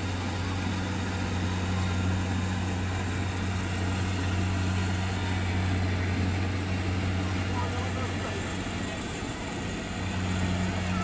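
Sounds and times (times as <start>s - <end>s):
combine harvester engine droning: 0.0s - 11.0s.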